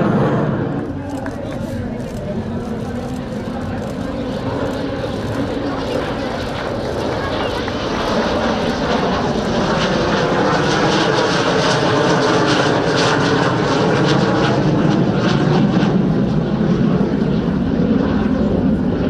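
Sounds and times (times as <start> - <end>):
jet engine roar with crackle: 0.0 - 19.0.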